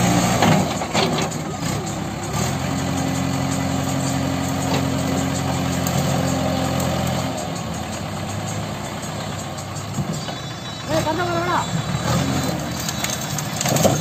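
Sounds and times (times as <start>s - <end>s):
backhoe diesel engine running: 0.0s - 14.0s.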